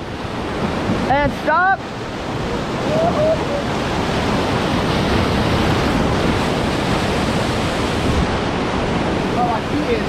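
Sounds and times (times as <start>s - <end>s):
river whitewater rushing: 0.0s - 10.0s.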